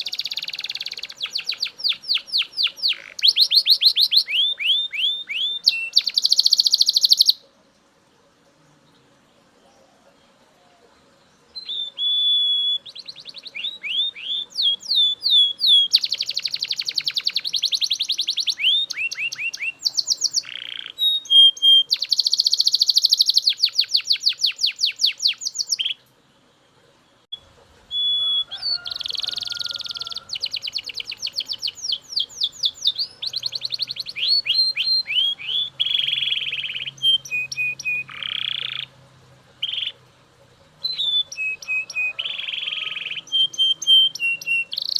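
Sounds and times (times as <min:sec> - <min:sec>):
canary singing trills: 0:00.0 - 0:07.6, 0:08.8 - 0:44.9.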